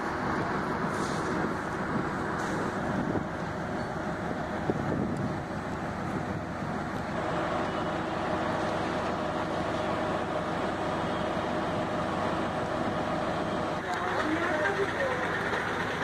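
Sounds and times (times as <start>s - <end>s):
diesel train engine running: 0.0s - 16.0s.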